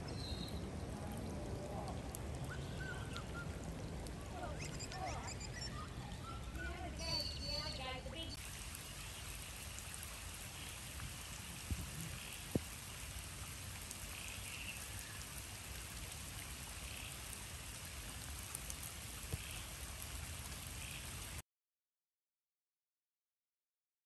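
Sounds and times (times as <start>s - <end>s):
steady rain falling: 0.0s - 21.4s.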